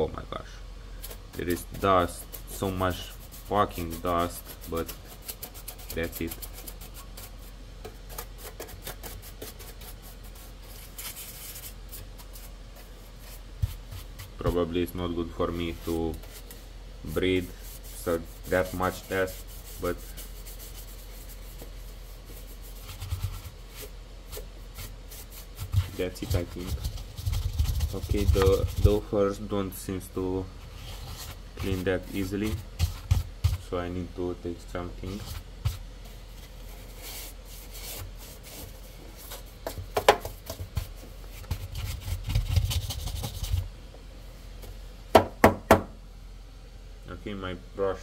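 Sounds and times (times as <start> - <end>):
steady low hum: 0.0 - 48.0
paintbrush scratchy brushing: 1.1 - 33.8, 35.0 - 39.8, 40.4 - 43.7.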